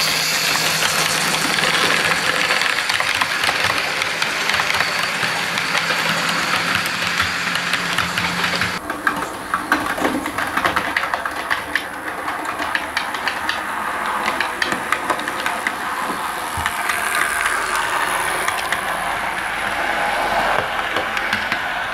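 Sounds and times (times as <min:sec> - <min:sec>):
model train running noise: 0:00.0 - 0:21.9
model train wheels clicking: 0:00.0 - 0:21.9.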